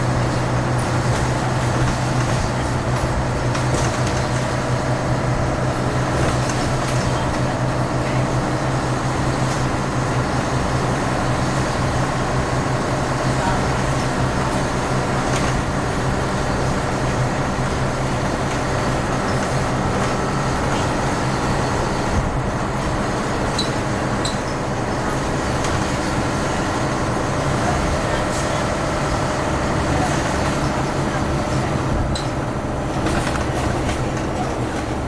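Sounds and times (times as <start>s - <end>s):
bus engine droning: 0.0s - 35.0s.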